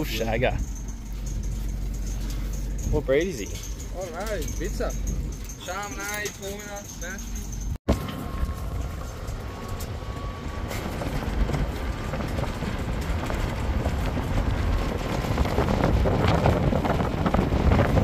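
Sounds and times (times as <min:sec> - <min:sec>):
vehicle engine and tyre rumble: 0:00.0 - 0:18.0
wind buffeting microphone: 0:00.0 - 0:18.0.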